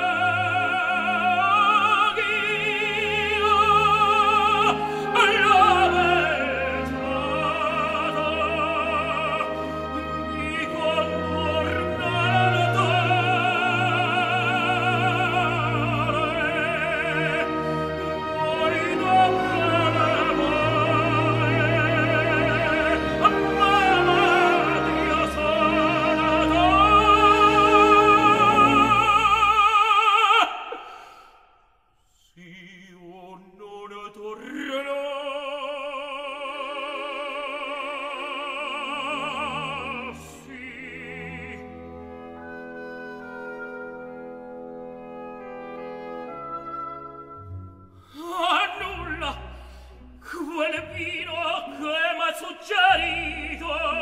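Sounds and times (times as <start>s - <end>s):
operatic tenor singing: 0.0s - 31.0s, 32.2s - 54.0s
full orchestra: 0.0s - 31.3s, 32.4s - 54.0s.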